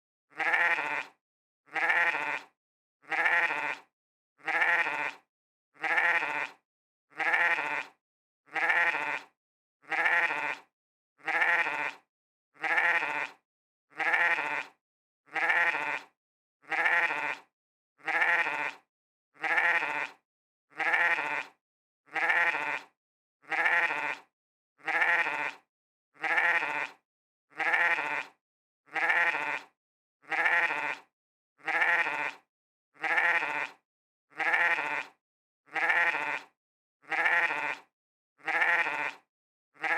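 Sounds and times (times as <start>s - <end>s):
sheep bleating: 0.3s - 18.8s, 19.4s - 39.9s.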